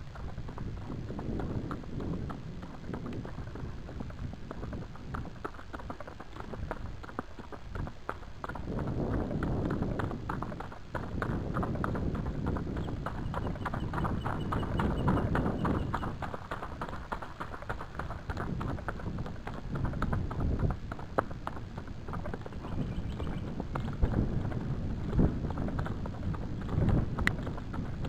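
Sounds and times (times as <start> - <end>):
horse hoofbeats on dirt: 0.0 - 28.0.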